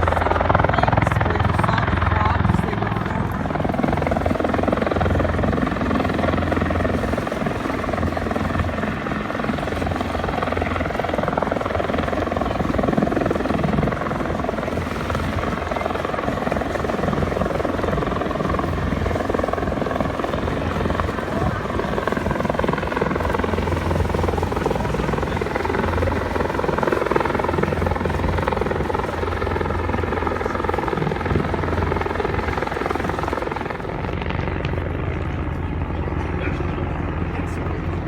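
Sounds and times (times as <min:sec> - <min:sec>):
aircraft droning overhead: 0:00.0 - 0:38.0.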